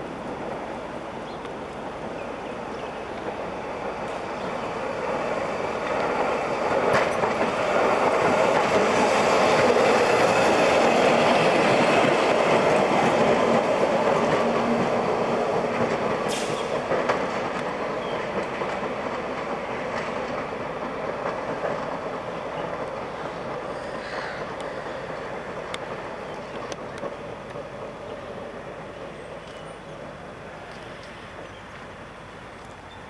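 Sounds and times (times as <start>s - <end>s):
tram rumbling past: 0.0s - 33.0s.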